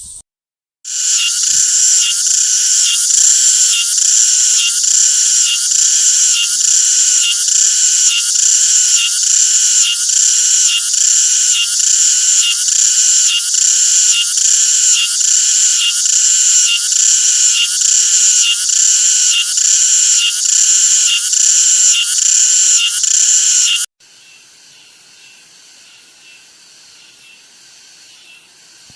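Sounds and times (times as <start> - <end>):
cicada chorus buzzing: 0.9 - 28.9.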